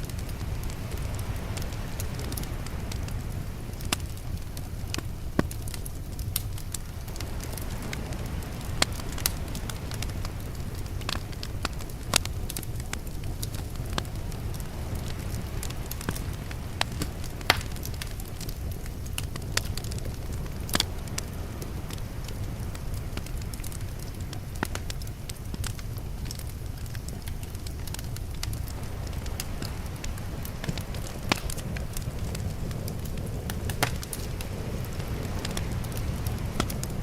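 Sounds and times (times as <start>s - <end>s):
steady low rumble: 0.0s - 37.0s
wood fire crackling: 0.0s - 37.0s.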